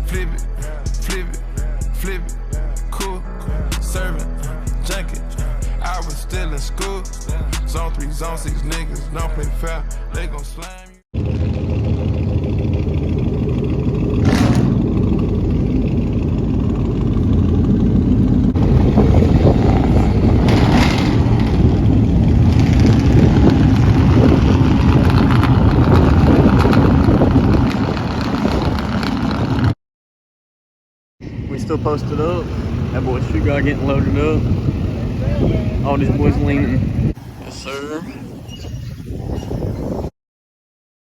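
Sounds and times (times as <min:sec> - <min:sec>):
truck engine rumbling: 0:00.0 - 0:29.8, 0:31.2 - 0:40.0.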